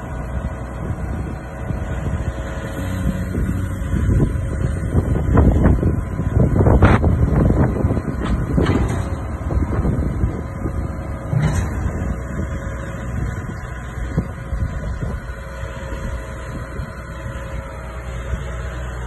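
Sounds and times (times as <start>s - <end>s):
machine rumble and hum: 0.0s - 19.0s.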